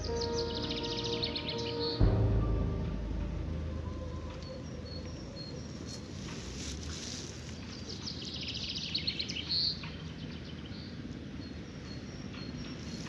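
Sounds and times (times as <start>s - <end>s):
low outdoor background noise: 0.0s - 13.0s
songbirds chirping: 0.0s - 13.0s.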